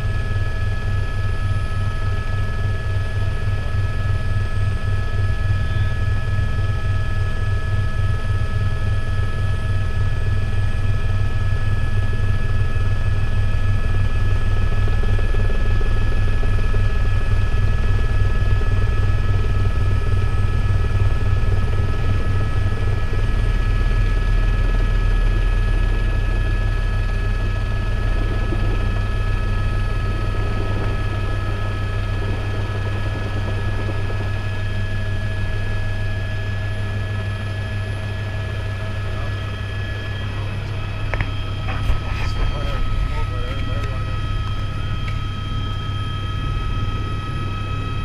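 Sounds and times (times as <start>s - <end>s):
helicopter rotor and turbine noise: 0.0s - 48.0s.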